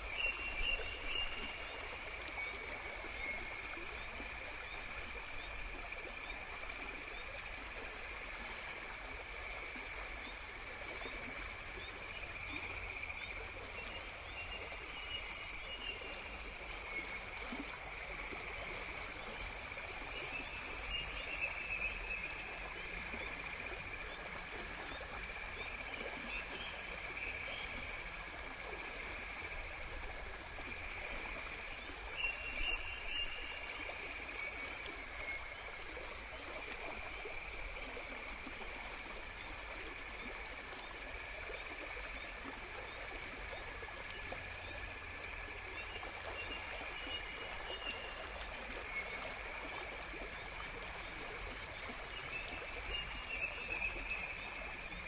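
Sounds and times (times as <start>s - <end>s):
insect chorus: 0.0s - 45.8s, 50.4s - 55.0s
constant even hiss: 0.0s - 47.7s.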